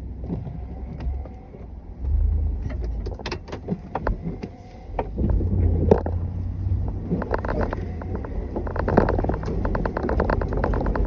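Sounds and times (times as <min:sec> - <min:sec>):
snowplow engine rumble: 0:00.0 - 0:11.0.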